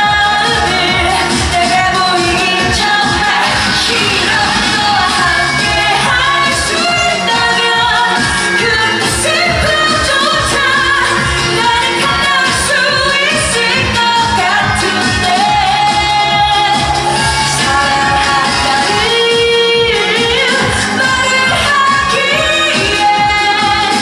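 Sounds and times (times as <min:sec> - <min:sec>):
backing band track with beat: 0:00.0 - 0:24.0
woman singing pop song: 0:00.0 - 0:24.0.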